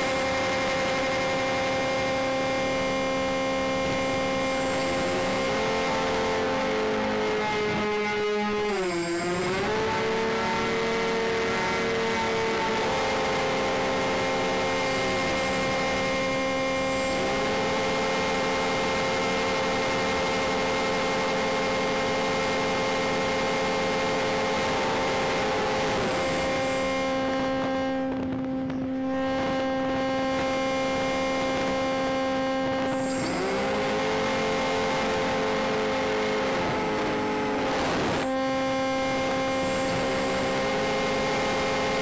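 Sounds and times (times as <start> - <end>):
model plane motors whining: 0.0 - 42.0.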